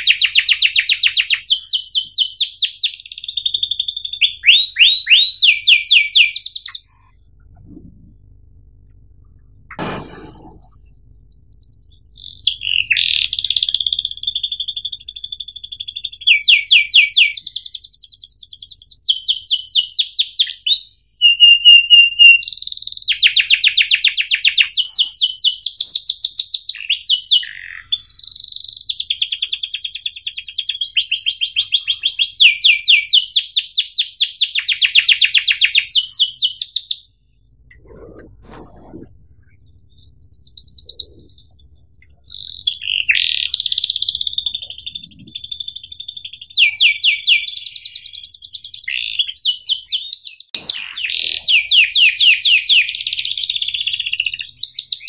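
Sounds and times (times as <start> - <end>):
canary singing trills: 0.0 - 7.9, 9.8 - 55.0.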